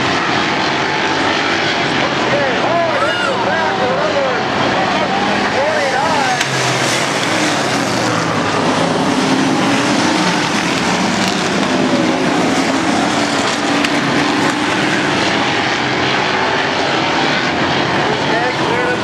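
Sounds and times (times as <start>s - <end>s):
race car engines roaring: 0.0s - 19.0s.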